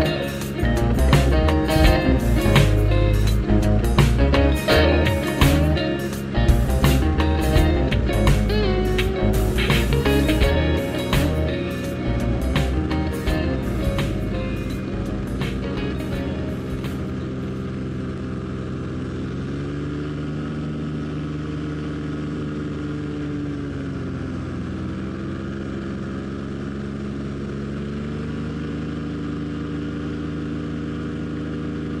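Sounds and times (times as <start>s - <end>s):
paramotor engine running: 0.0s - 32.0s.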